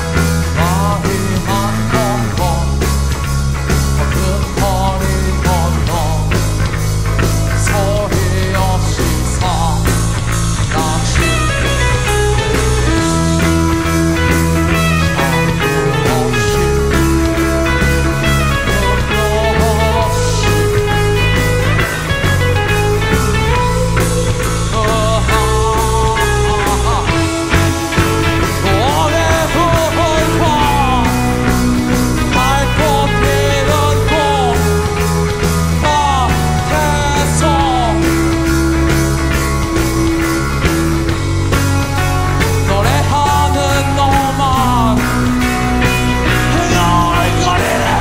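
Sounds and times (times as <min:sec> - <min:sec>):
man singing: 0:00.0 - 0:03.1, 0:03.8 - 0:21.4, 0:23.1 - 0:38.8, 0:42.4 - 0:48.0
bass guitar: 0:00.0 - 0:48.0
drum kit with cymbals: 0:00.0 - 0:48.0
electric guitars: 0:00.0 - 0:48.0.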